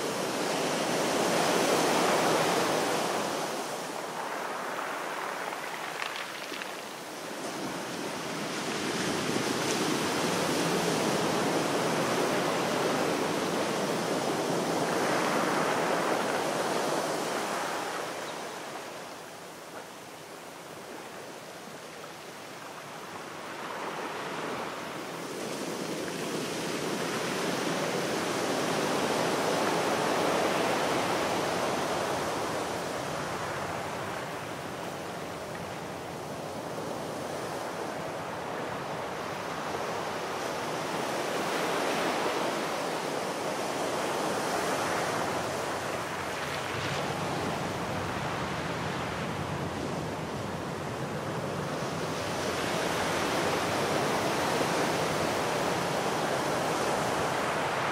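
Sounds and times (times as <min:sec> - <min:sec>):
sea waves washing on shore: 0:00.0 - 0:57.9.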